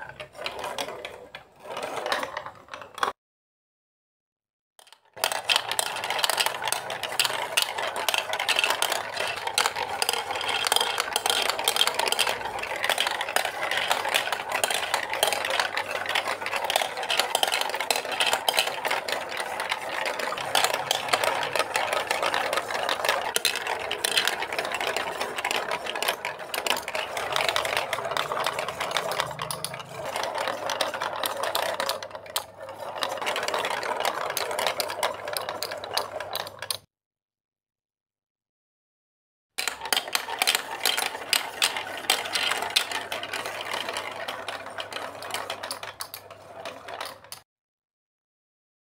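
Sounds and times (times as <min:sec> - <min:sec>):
plastic marbles rattling through chutes: 0:00.0 - 0:03.2, 0:04.8 - 0:36.9, 0:39.6 - 0:47.4.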